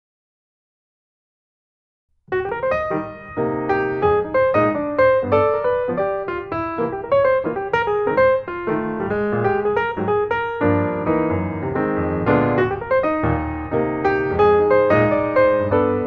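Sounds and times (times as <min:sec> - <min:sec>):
piano music: 0:02.3 - 0:16.0.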